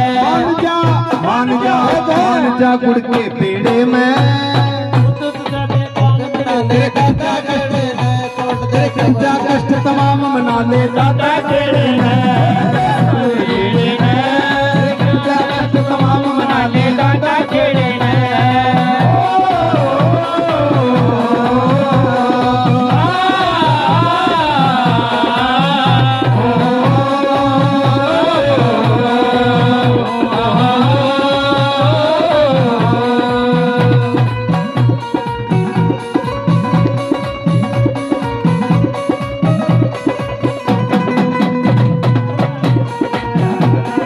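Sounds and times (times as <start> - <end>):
hand drum beat: 0.0 - 44.0.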